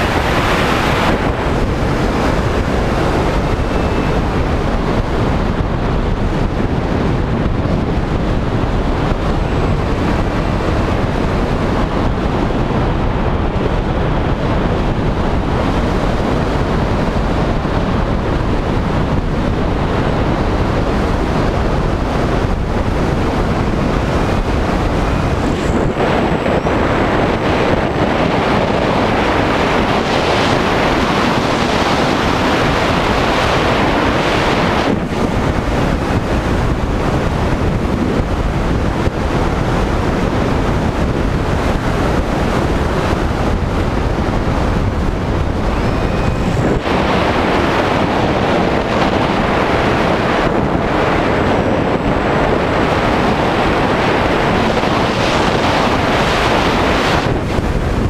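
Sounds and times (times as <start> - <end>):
wind rush on microphone: 0.0 - 58.0.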